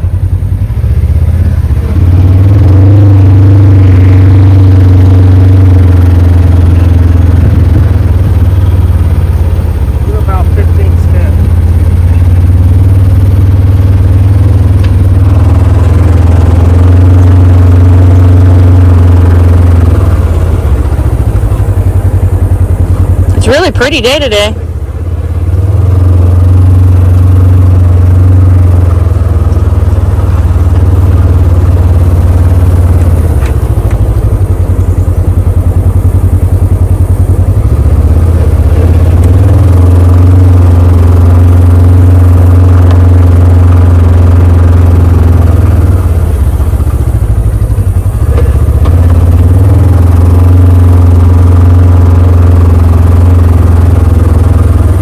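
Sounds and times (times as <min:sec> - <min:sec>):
small vehicle engine running: 0:00.0 - 0:55.0.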